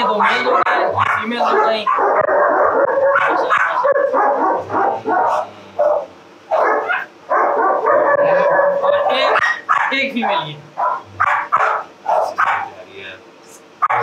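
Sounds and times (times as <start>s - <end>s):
dogs barking loudly: 0.0s - 12.8s, 13.8s - 14.0s.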